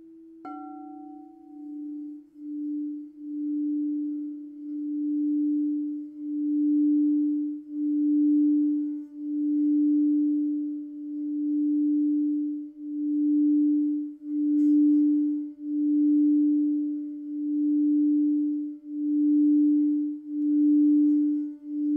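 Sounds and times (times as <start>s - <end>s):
singing bowl tone: 0.0s - 21.9s.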